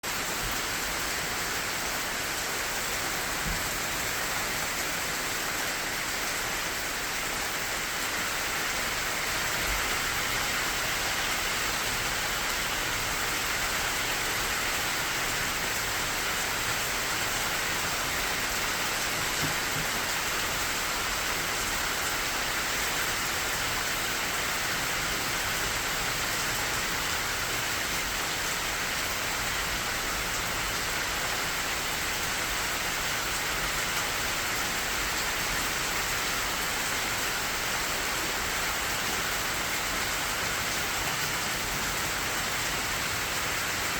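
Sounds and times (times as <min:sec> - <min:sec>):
rain on leaves: 0:00.0 - 0:43.9.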